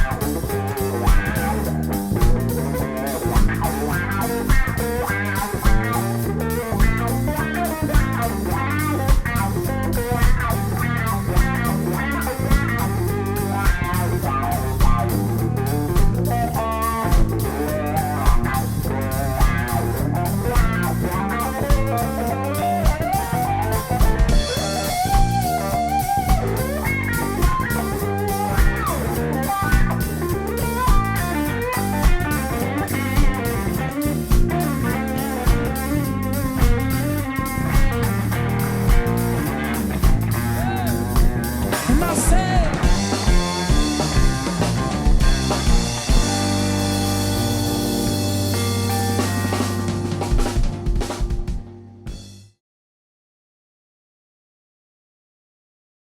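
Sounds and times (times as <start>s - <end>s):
electric guitar soloing: 0.0s - 51.9s
drum kit steady beat: 0.0s - 52.4s
bass guitar: 0.0s - 52.6s.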